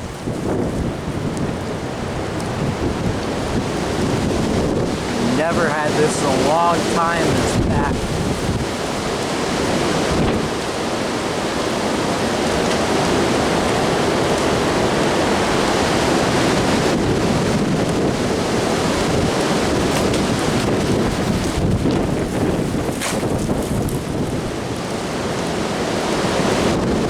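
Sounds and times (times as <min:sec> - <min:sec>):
strong gusty wind buffeting microphone: 0:00.0 - 0:27.0.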